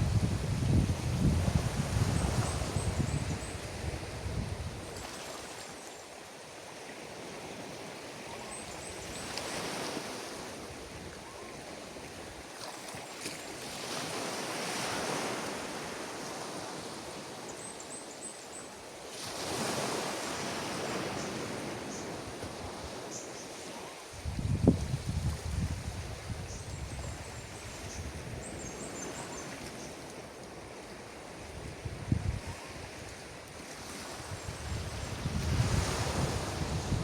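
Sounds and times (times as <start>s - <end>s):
ocean waves breaking on beach: 0.0s - 37.0s.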